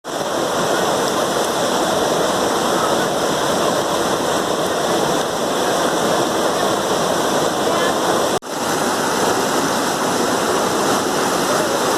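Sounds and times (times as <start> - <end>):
water cascading down rocks: 0.0 - 11.9.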